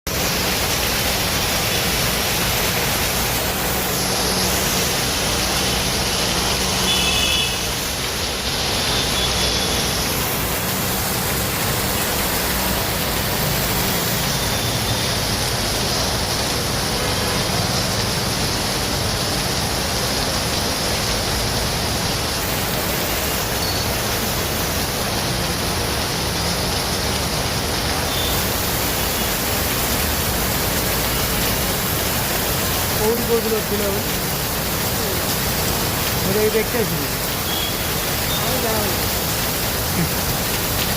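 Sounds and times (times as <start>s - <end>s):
heavy rain falling: 0.1s - 40.9s.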